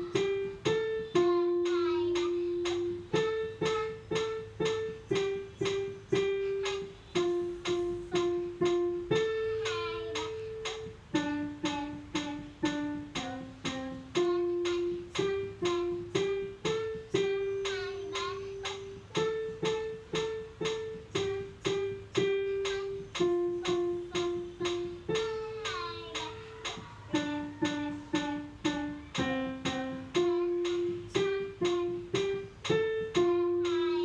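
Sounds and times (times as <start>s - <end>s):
child singing: 0.0s - 34.0s
digital piano melody: 0.0s - 34.0s.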